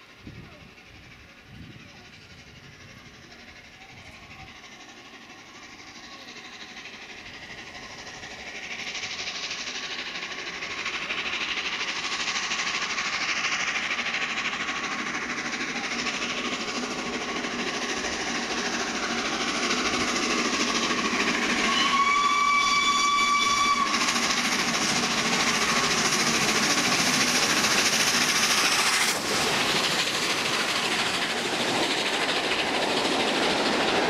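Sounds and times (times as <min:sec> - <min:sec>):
steam hiss: 0:00.0 - 0:34.0
steam locomotive approaching: 0:00.0 - 0:34.0.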